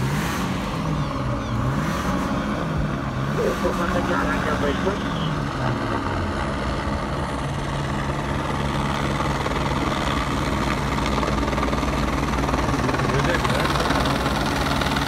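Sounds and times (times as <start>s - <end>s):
helicopter rotor and turbine drone: 0.0s - 15.0s
steady engine hum: 0.0s - 15.0s.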